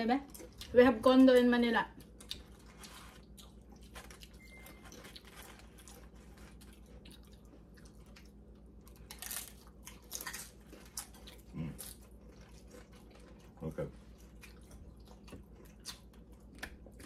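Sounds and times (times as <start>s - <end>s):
chewing crunchy nachos: 0.2s - 17.0s.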